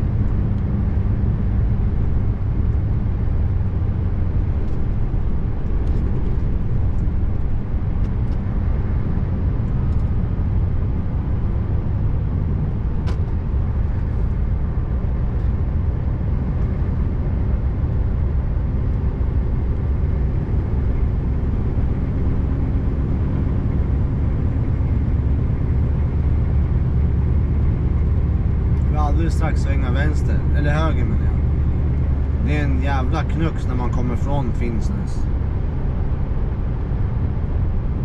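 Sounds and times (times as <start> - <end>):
diesel engine droning: 0.0 - 38.0
road noise: 0.0 - 38.0.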